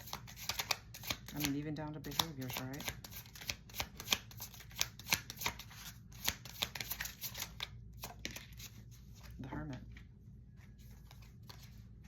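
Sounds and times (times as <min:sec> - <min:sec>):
cards being shuffled: 0:00.0 - 0:10.0, 0:10.6 - 0:12.0.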